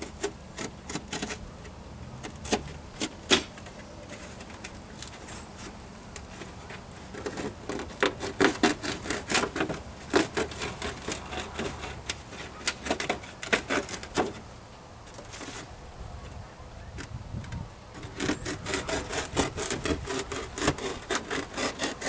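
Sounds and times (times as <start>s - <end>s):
wood knocks and scrapes: 0.0s - 15.7s, 17.0s - 22.0s.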